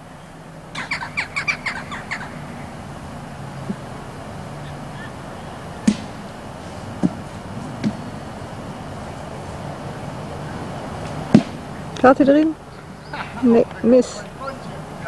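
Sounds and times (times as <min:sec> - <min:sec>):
bird harsh calls: 0:00.0 - 0:15.0.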